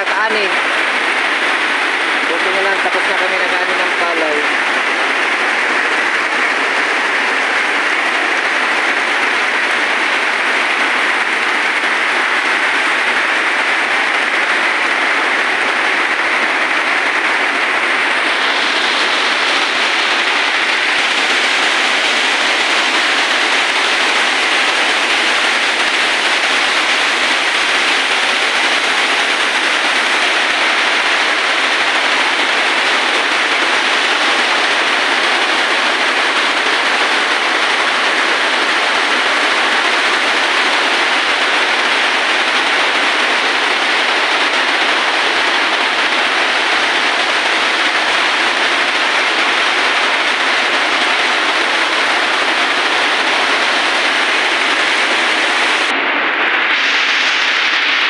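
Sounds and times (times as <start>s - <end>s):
heavy rain on foliage: 0.0s - 58.0s
rain on a metal roof: 0.0s - 58.0s.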